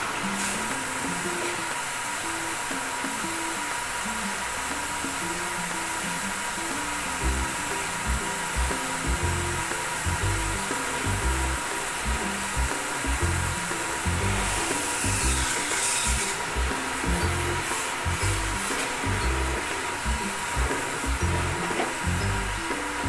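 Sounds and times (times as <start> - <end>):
pressure washer spraying water: 0.0 - 23.0
music with bass beat: 0.2 - 23.0.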